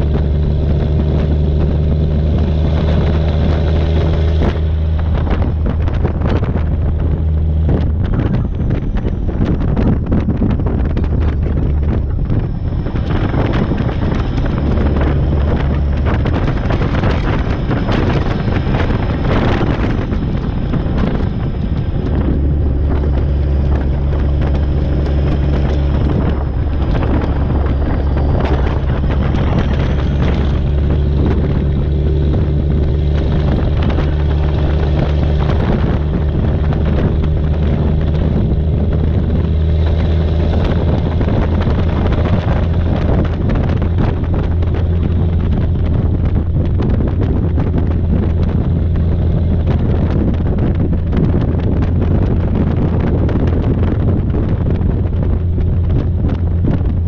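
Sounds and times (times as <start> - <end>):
truck diesel engine droning: 0.0 - 57.0
wind rushing over microphone: 0.0 - 57.0.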